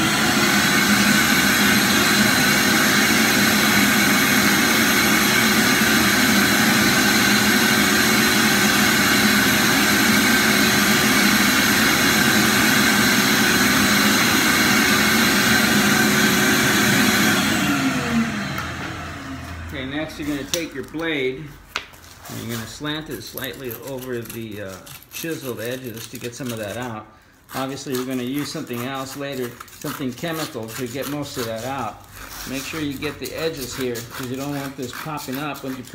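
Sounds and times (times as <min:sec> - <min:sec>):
shop vacuum whining: 0:00.0 - 0:24.0, 0:27.2 - 0:35.9.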